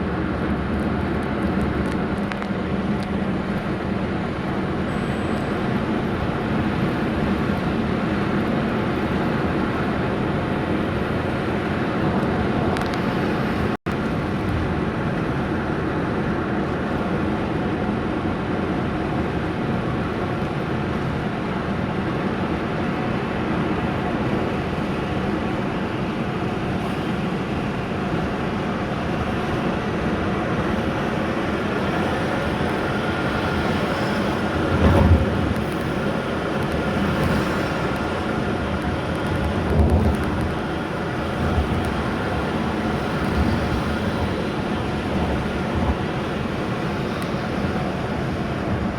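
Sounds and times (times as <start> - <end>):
road noise: 0.0 - 48.9.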